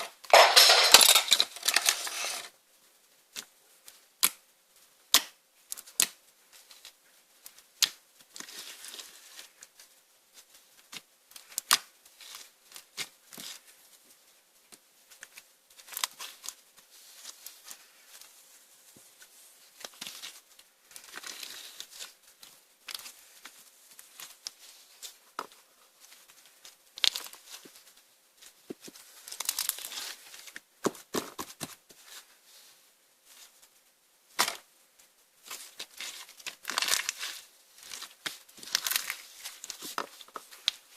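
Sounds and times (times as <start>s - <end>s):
crinkly rustling: 0.0s - 2.6s, 6.5s - 40.9s.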